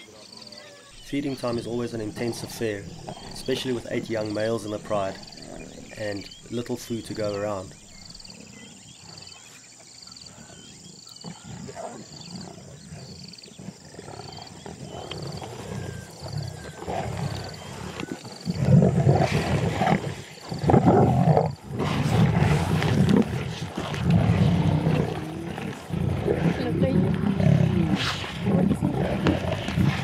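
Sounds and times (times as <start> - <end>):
lions growling and snarling: 0.1 - 30.0.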